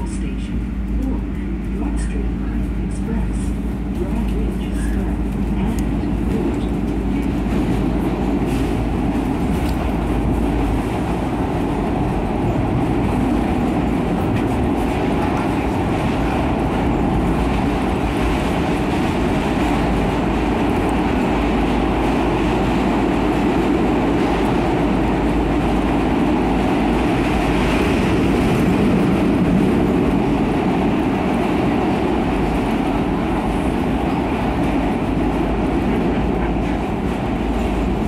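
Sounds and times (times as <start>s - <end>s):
subway train wheels rumbling on track: 0.0s - 38.0s.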